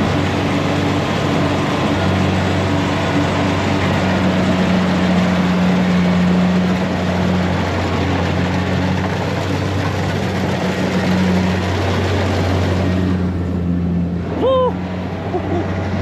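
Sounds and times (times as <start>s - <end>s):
engine running loudly: 0.0s - 16.0s.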